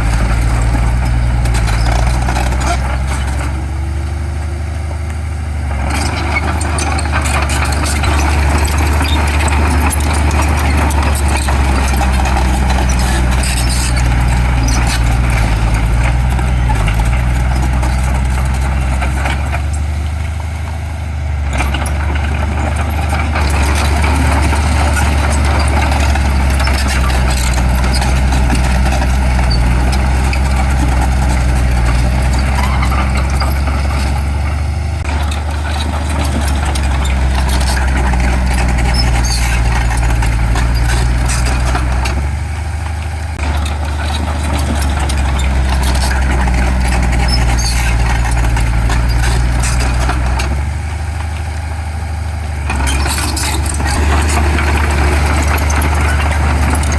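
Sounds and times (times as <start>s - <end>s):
heavy diesel engine humming: 0.0s - 56.9s.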